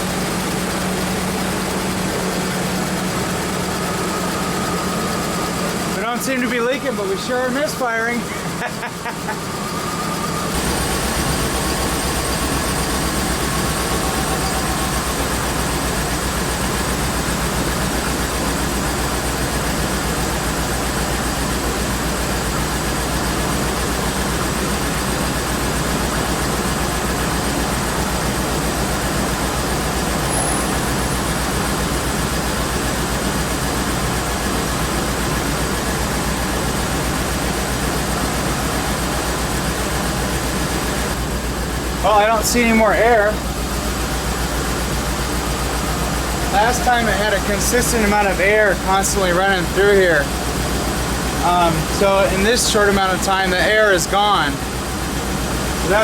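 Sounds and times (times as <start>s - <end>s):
car engine idling with misfire: 0.0s - 56.0s
power steering pump running: 0.0s - 56.0s.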